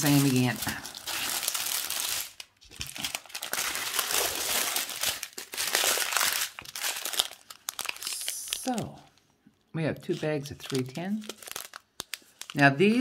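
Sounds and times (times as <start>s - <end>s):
plastic bags crinkling: 0.0s - 9.2s, 10.0s - 13.0s.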